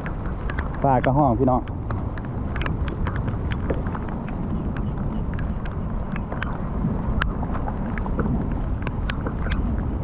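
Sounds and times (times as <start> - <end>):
raindrops ticking close by: 0.0 - 10.0.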